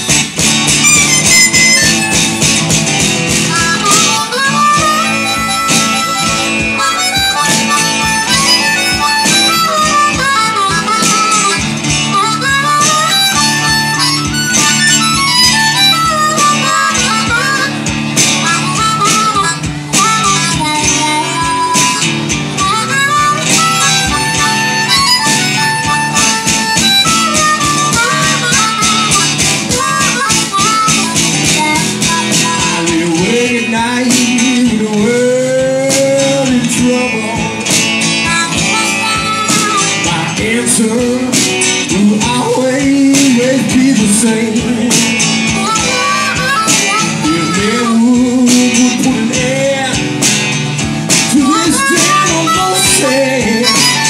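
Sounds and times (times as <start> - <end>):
harmonica solo: 0.0 - 54.0
strummed acoustic guitar: 0.0 - 54.0.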